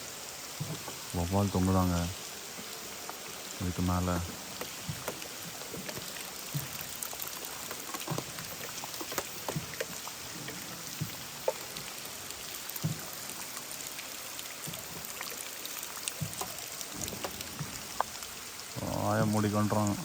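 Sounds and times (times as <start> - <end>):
steady hiss: 0.0 - 20.0
water dripping and splashing: 0.0 - 20.0.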